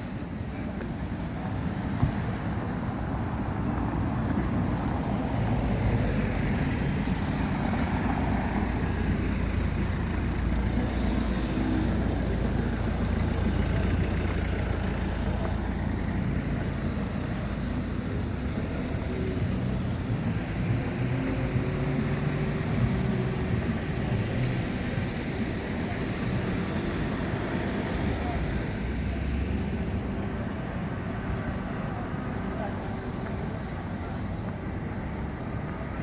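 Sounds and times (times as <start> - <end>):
low rumble of road vehicles: 0.0 - 36.0.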